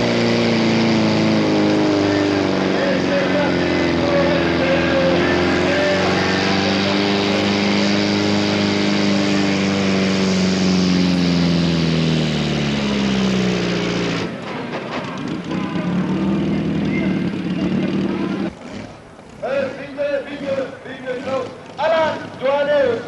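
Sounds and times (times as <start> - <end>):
engine running under full load: 0.0 - 23.0.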